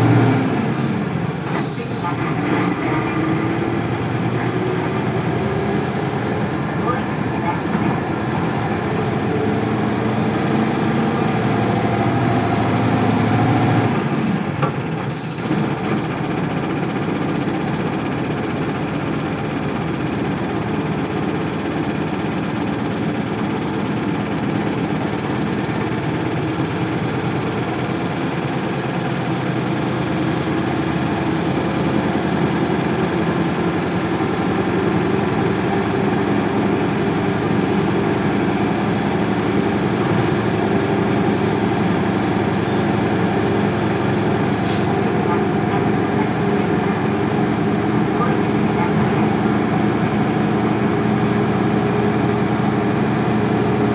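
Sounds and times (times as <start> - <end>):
diesel bus engine running: 0.0 - 53.9.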